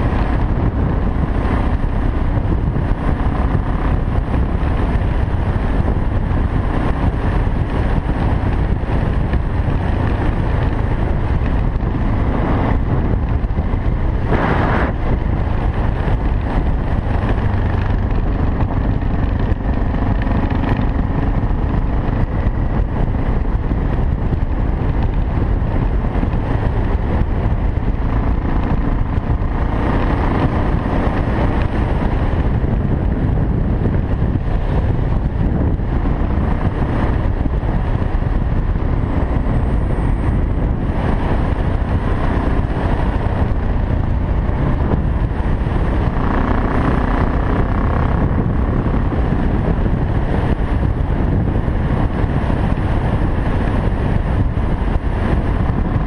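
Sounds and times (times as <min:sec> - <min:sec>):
motorcycle engine cruising: 0:00.0 - 0:56.0
wind rushing over microphone: 0:00.0 - 0:56.0.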